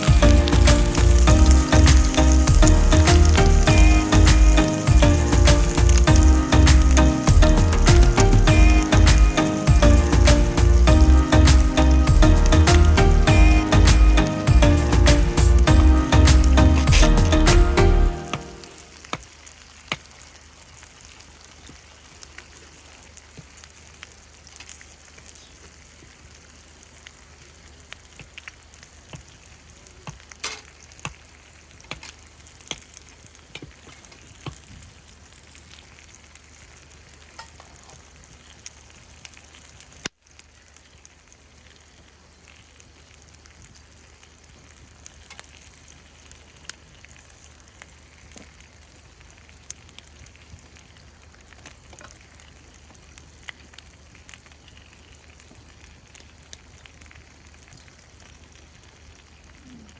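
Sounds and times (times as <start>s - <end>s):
food sizzling in a frying pan: 0.0s - 59.6s.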